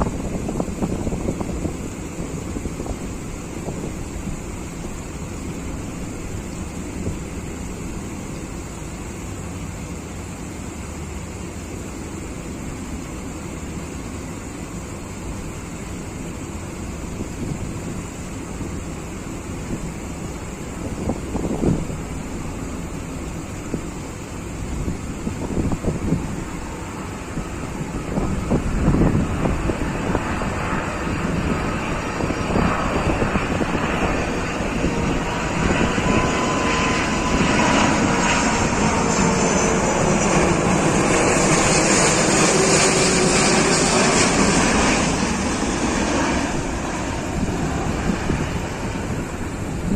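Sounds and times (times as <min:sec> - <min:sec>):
faint engine whine: 0:00.0 - 0:49.9
jet engines running: 0:00.0 - 0:49.9.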